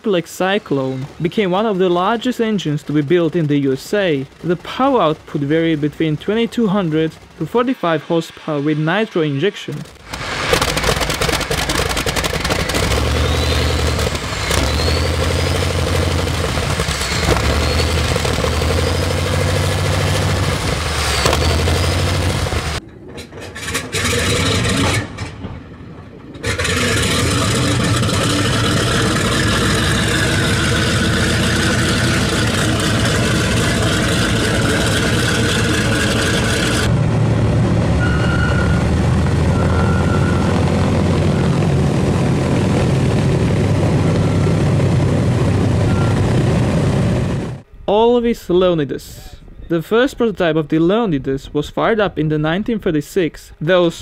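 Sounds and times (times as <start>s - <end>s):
radial engines running steadily: 0.0s - 47.6s
radial engine starting unevenly: 0.8s - 47.6s.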